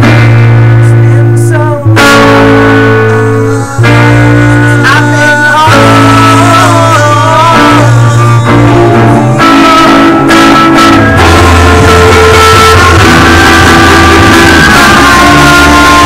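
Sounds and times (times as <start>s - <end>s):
rock band with guitars: 0.0s - 16.0s.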